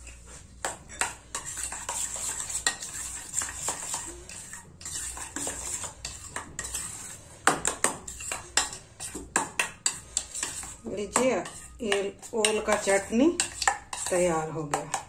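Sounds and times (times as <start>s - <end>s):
spoon stirring wet mash: 0.0s - 15.0s.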